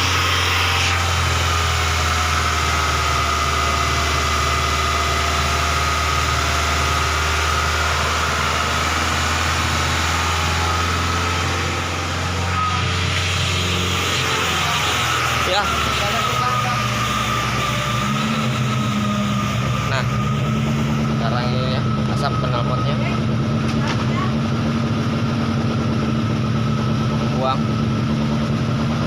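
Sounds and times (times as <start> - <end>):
car engine idling: 0.0 - 29.0
high whine: 0.0 - 29.0.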